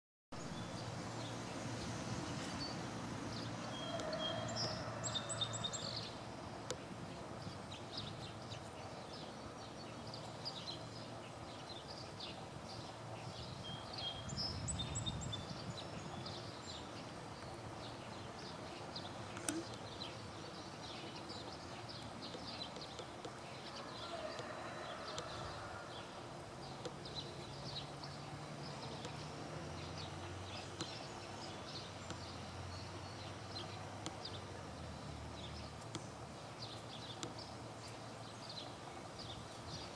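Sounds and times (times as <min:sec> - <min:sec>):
songbirds chirping: 0:00.4 - 0:39.9.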